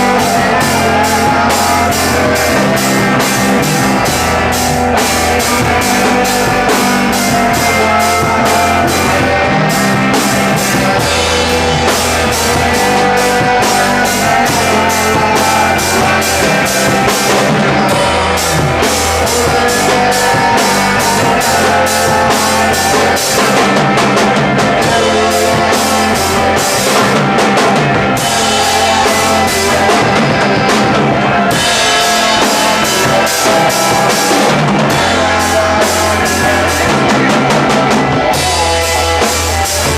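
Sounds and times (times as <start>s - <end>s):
bass: 0.0s - 39.9s
drum kit beat: 0.0s - 39.9s
rock music: 0.0s - 39.9s.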